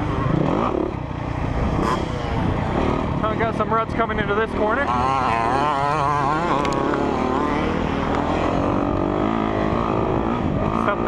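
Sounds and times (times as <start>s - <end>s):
motocross bike engine revving: 0.0s - 11.0s
rumble of riding: 0.0s - 11.0s.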